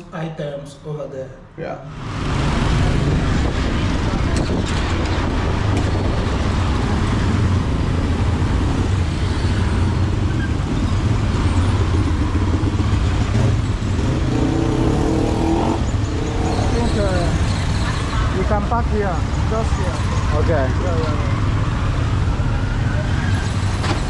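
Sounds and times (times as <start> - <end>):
vehicle engine rumble: 2.0 - 24.0.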